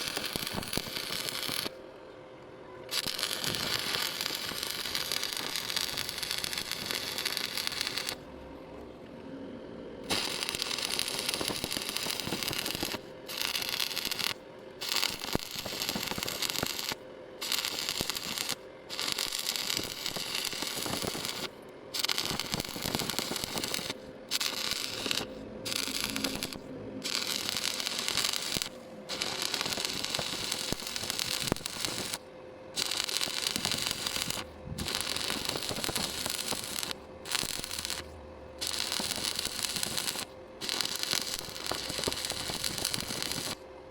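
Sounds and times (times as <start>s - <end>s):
welding arc crackling: 0.0s - 1.7s, 2.9s - 8.2s, 10.0s - 32.2s, 32.8s - 43.6s.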